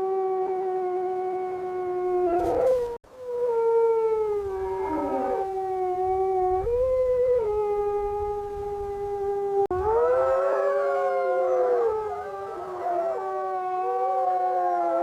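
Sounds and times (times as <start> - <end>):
wolf howling: 0.0 - 15.0.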